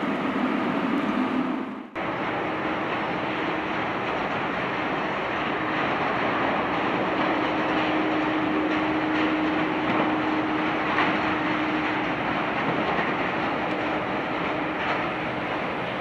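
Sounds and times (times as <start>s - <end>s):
jet engines idling: 0.0s - 16.0s.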